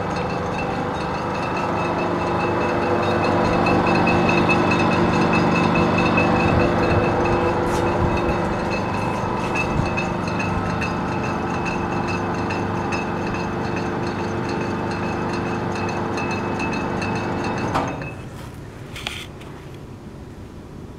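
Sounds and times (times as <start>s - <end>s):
motor and gearing humming: 0.0s - 20.1s.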